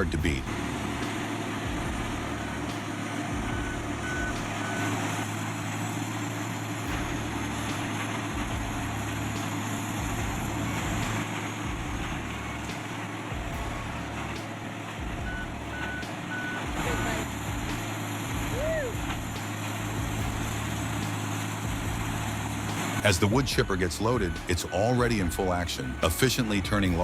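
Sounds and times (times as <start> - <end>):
heavy machinery running: 0.0 - 27.0
reversing alarm beeping: 0.0 - 27.0.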